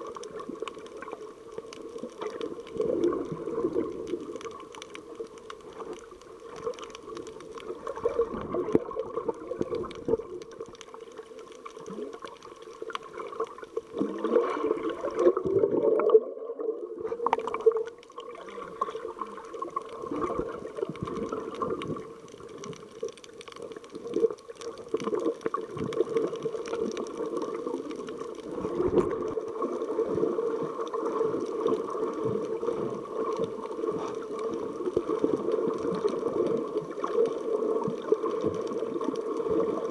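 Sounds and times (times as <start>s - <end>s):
underwater sloshing and gurgling: 0.0s - 39.9s
underwater swishes: 0.0s - 39.9s.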